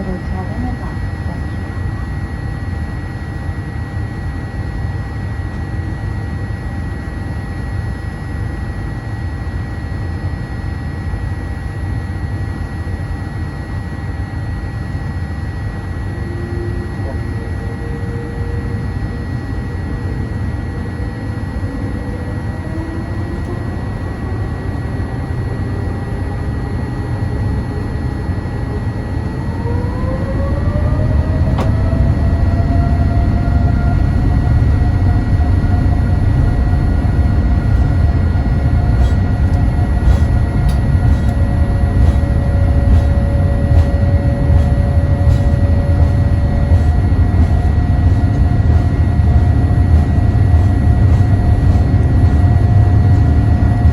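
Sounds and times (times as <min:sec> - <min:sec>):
airplane cabin rumble: 0:00.0 - 0:53.9
jet engine whine: 0:00.0 - 0:53.9.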